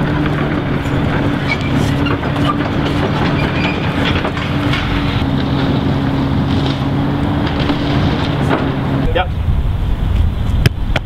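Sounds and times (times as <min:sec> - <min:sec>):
broad rumbling noise: 0:00.0 - 0:11.0
low mechanical hum: 0:00.0 - 0:11.0.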